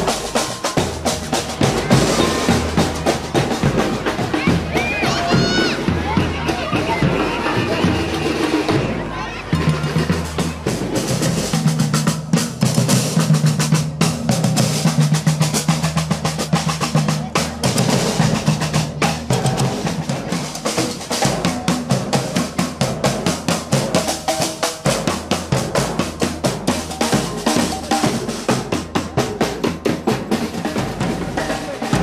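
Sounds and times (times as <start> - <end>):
bass drums marching rhythm: 0.0 - 32.0
snare drum rolls: 0.0 - 32.0.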